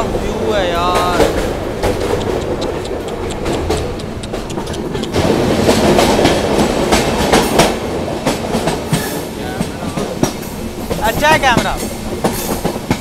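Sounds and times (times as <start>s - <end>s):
train rumbling on track: 0.0s - 13.0s
wheels clicking over rail joints: 0.0s - 13.0s.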